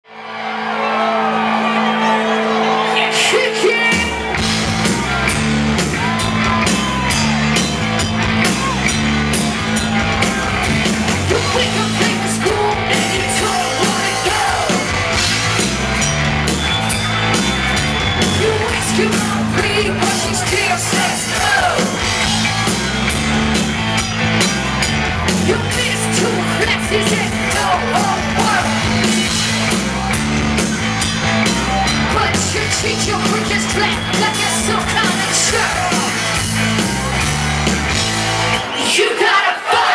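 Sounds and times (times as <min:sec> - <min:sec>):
electric guitars: 0:00.1 - 0:38.8
bass line: 0:01.7 - 0:38.7
drum kit beat: 0:03.9 - 0:38.7.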